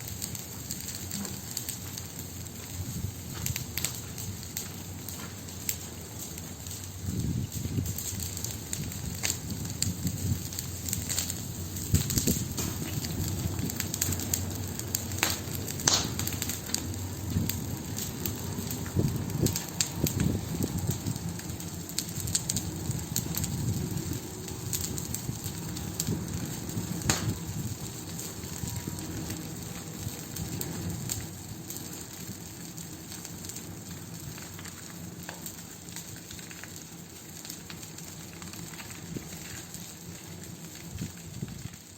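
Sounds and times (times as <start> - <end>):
campfire snaps and pops: 0.0 - 41.9
low rumble of flames: 0.0 - 41.9.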